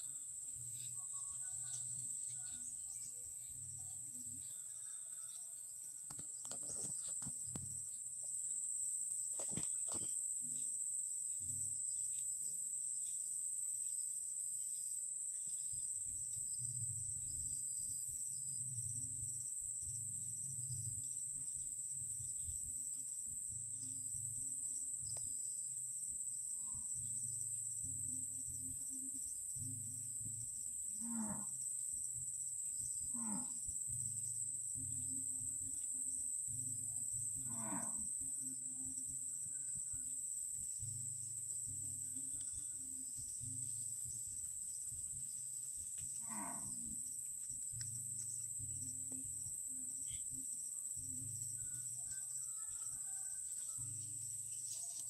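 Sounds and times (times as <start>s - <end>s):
high-pitched insect buzzing: 0.0s - 8.8s, 14.7s - 55.0s.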